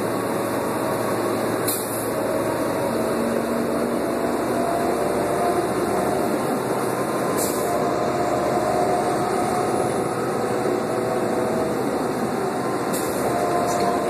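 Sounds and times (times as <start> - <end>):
bus engine running: 0.0 - 14.0
road and cabin noise: 0.0 - 14.0.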